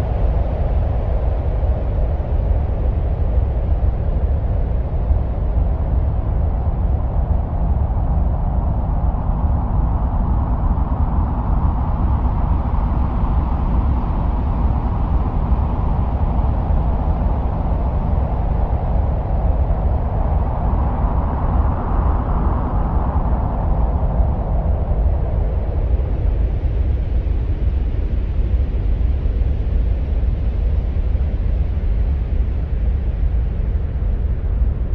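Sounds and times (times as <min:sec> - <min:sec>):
deep rumbling wind: 0:00.0 - 0:34.9.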